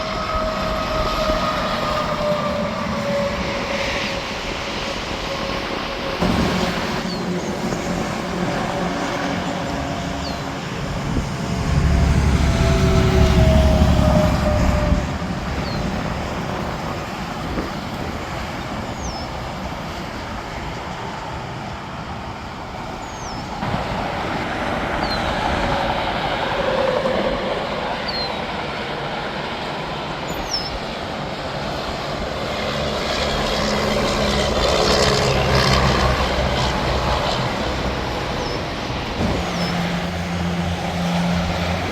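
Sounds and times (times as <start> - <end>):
trucks passing: 0.0 - 41.9.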